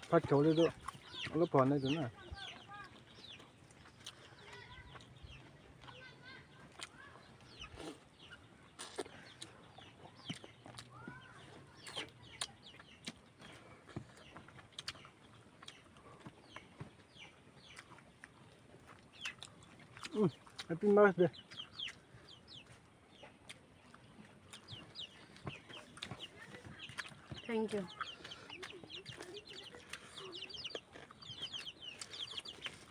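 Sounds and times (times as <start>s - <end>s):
chewing smacks: 0.2s - 1.3s, 2.8s - 32.9s.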